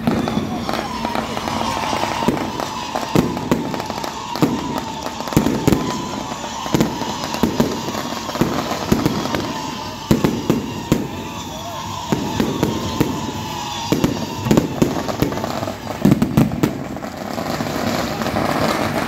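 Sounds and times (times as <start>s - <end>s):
fireworks bangs: 0.0s - 19.0s
fireworks popping and crackling: 0.0s - 19.0s.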